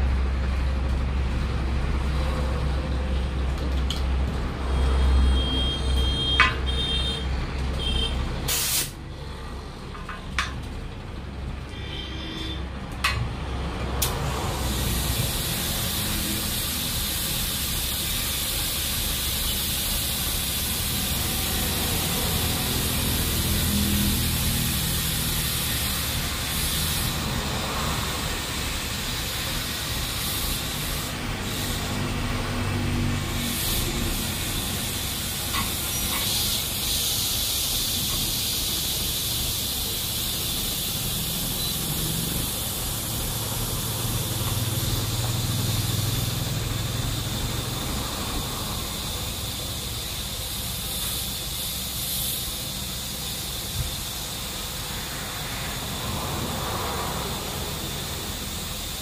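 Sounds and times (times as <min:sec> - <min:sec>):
compressed air hissing: 0:04.6 - 0:09.7, 0:14.0 - 0:59.0.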